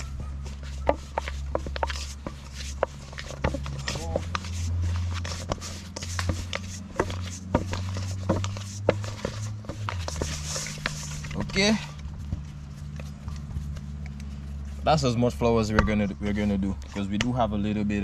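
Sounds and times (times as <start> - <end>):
dough mixed by hand in bowl: 0.0 - 15.4.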